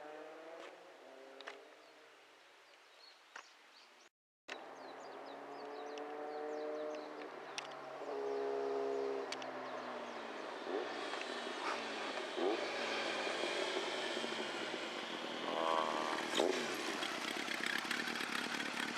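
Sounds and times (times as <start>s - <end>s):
motorcycle engine revving: 0.0s - 1.6s, 4.7s - 18.9s.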